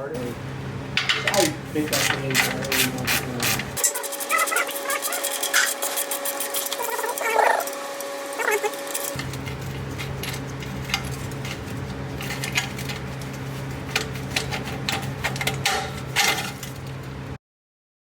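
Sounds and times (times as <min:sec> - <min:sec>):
steady low hum: 0:00.0 - 0:17.4.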